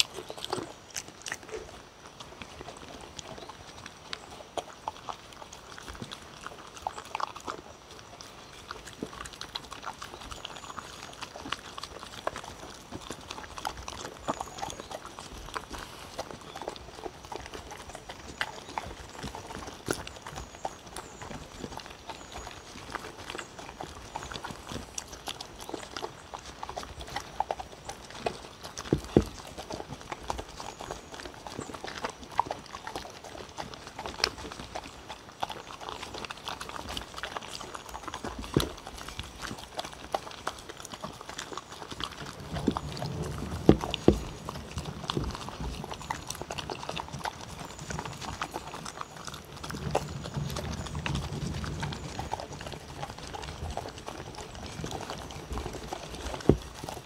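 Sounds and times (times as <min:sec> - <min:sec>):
dogs chewing and licking: 0:00.0 - 0:57.0.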